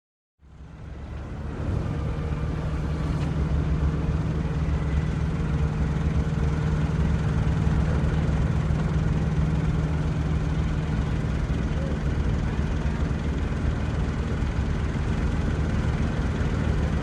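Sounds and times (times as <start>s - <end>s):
boat engine low drone: 0.4s - 17.0s.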